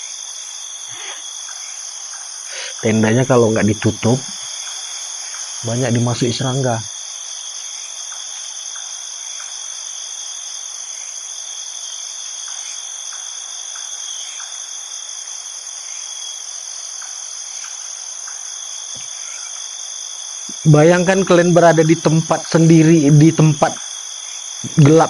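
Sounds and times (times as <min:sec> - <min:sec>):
crickets trilling: 0:00.0 - 0:25.0
short insect chirps: 0:00.0 - 0:25.0.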